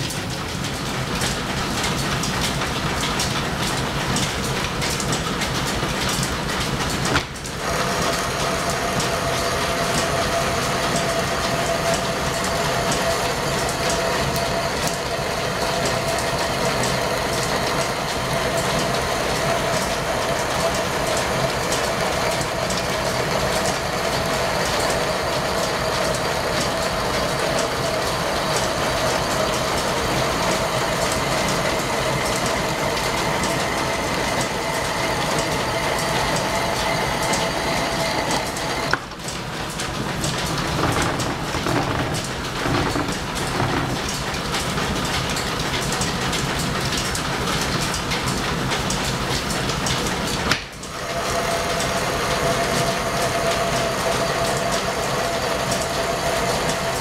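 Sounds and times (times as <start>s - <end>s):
lathe running: 0.0s - 57.0s.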